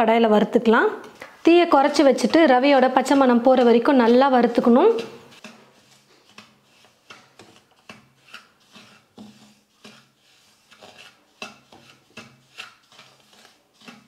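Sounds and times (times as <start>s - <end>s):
wooden spatula scraping semolina: 1.0s - 14.0s.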